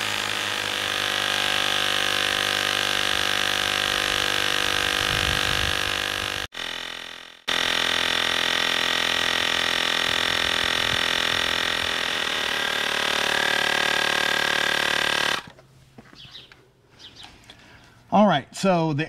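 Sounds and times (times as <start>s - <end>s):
tire inflator compressor running: 0.0s - 15.6s.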